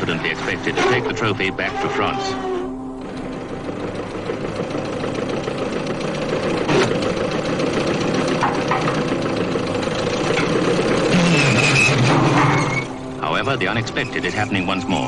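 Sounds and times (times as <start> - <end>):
racing car engine idling: 2.6 - 14.9.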